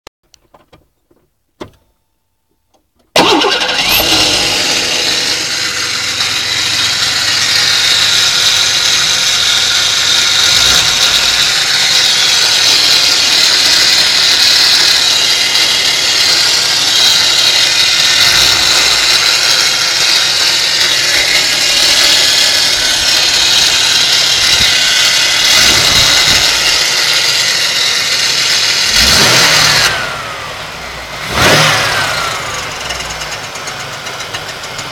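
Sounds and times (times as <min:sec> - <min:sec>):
car engine starting: 0:03.0 - 0:34.9
engine running with loud grinding: 0:03.2 - 0:34.9.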